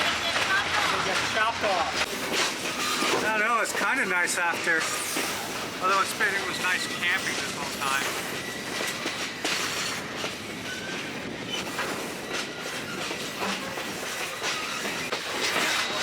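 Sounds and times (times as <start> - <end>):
train wheels rumbling on rails: 0.0 - 16.0
wheels clicking over rail joints: 0.0 - 16.0.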